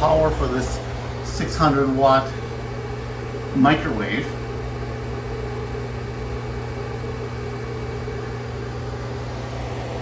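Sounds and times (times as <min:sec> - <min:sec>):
microwave oven humming: 0:00.0 - 0:10.0.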